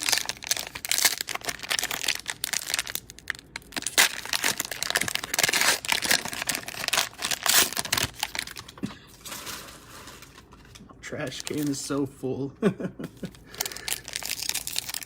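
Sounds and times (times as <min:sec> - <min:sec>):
cellophane wrapper crinkling: 0:00.0 - 0:12.0, 0:13.2 - 0:15.0.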